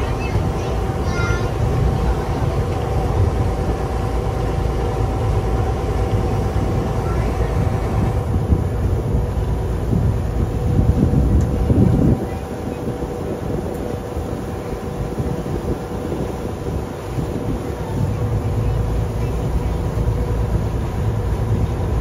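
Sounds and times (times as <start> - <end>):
motorboat engine rumbling: 0.0 - 22.0
water noise: 0.0 - 22.0
wind: 0.0 - 22.0.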